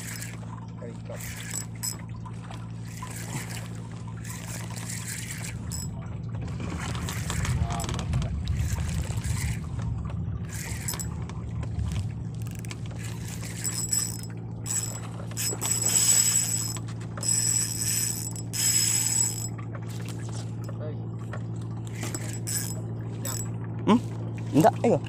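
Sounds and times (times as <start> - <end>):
fishing reel gears whining: 0.0 - 6.0, 6.6 - 9.8, 10.4 - 11.3, 11.9 - 20.8, 21.7 - 23.6
steady low drone: 0.0 - 25.0.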